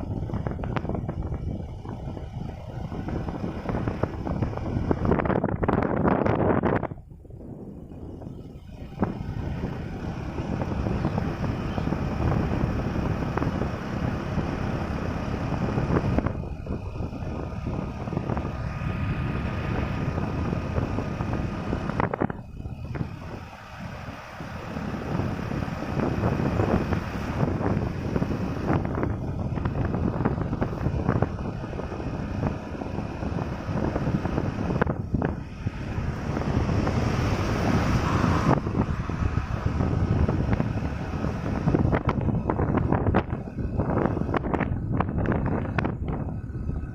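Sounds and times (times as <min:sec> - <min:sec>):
motorcycle engine rumbling: 0:00.0 - 0:46.9
wind buffeting on microphone: 0:00.0 - 0:46.9.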